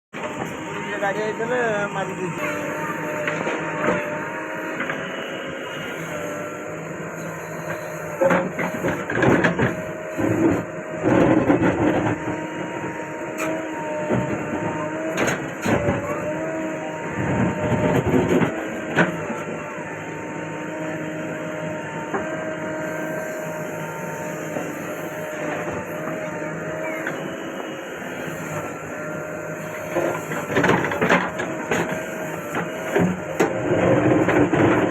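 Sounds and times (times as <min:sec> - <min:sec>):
diesel engine under load: 0:00.1 - 0:34.9
hydraulic whine: 0:00.1 - 0:34.9.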